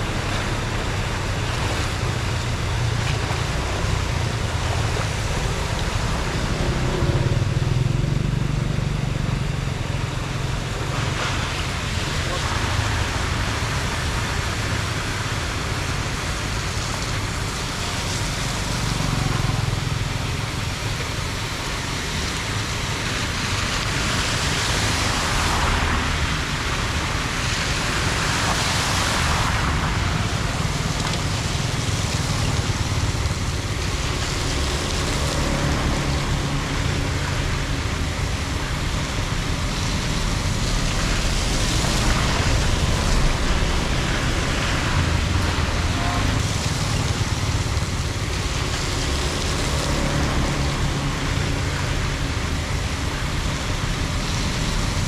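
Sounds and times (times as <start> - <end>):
water rushing into drain: 9.3 - 55.0.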